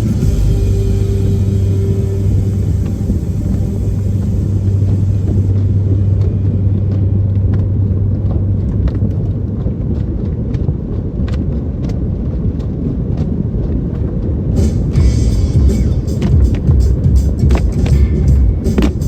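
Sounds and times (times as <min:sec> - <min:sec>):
steady hum: 0:00.0 - 0:19.0
vehicle rumble: 0:00.0 - 0:19.0.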